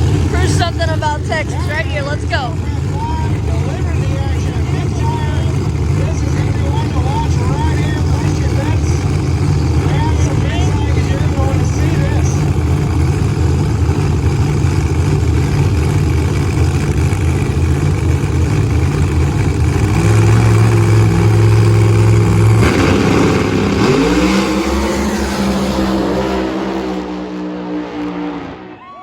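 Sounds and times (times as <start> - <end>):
vehicle engine running and revving: 0.0 - 28.9.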